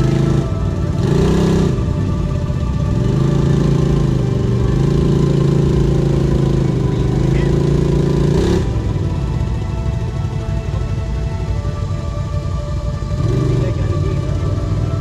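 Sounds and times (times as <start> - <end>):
quad engine revving high: 0.0 - 15.0.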